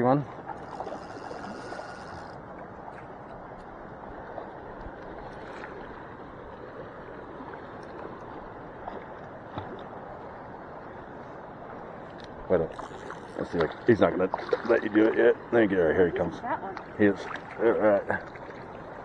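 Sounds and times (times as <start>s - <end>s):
lake water lapping at shore: 0.0s - 19.0s.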